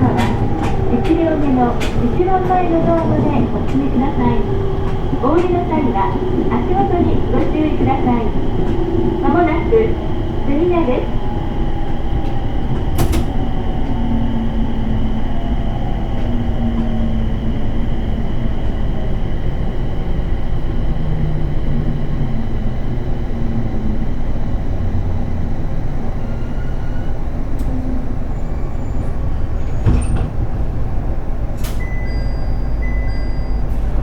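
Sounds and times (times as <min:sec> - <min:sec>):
train wheels and motors rumbling: 0:00.0 - 0:34.0.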